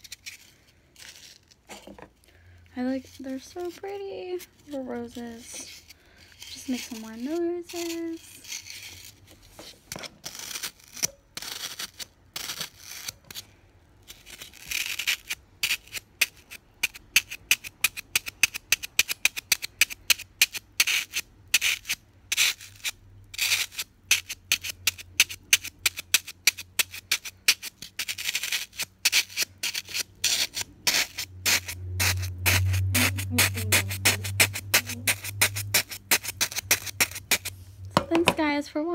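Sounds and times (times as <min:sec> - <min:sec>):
fingers scratching floral foam: 0:02.8 - 0:37.6.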